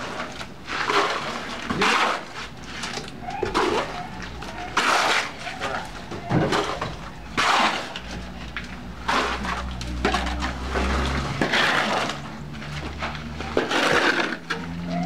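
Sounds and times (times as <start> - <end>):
hoe scraping cement mix: 0.0 - 15.0.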